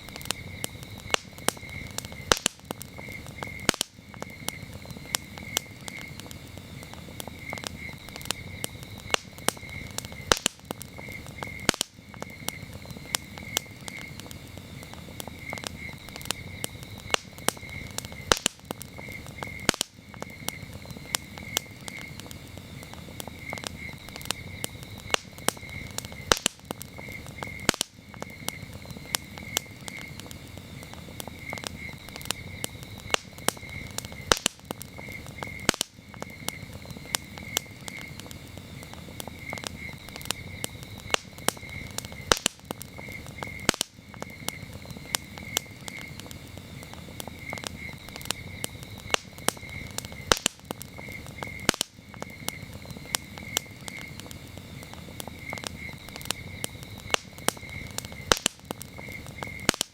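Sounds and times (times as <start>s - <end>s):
campfire crackling: 0.0s - 59.9s
crickets chirping: 0.0s - 59.9s.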